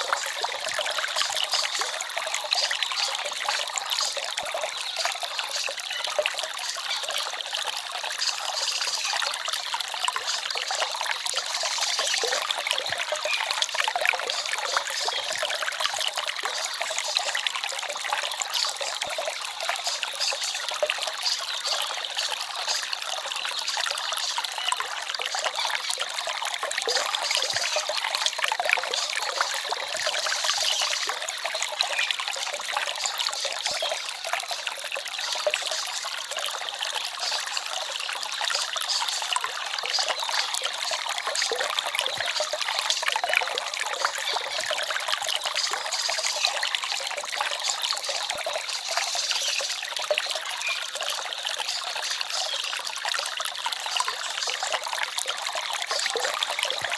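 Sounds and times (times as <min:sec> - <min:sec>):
stream trickling over stones: 0:00.0 - 0:56.9.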